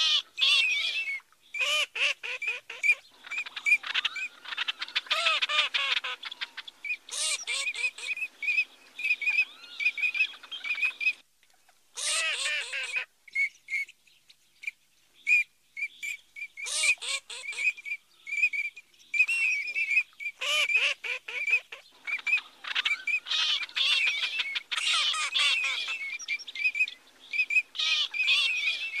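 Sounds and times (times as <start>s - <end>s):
ducks whistling calls: 0.0s - 11.2s, 12.0s - 13.9s, 15.3s - 29.0s.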